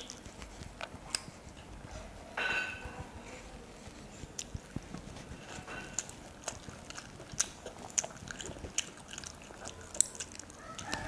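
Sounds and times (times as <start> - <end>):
wet chewing and lip-smacking: 0.0 - 2.3, 3.8 - 11.0.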